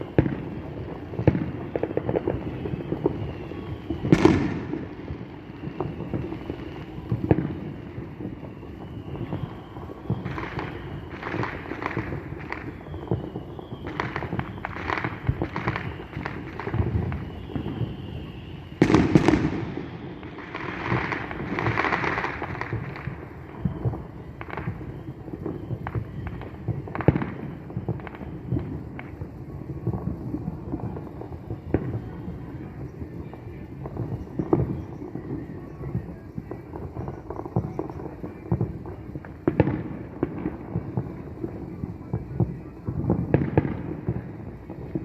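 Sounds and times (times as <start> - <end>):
distant fireworks booming: 0.0 - 45.0
fireworks crackling: 0.0 - 45.0.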